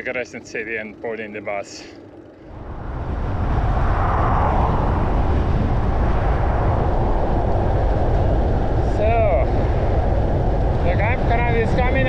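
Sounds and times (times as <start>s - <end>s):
wind rushing over microphone: 2.0s - 12.0s.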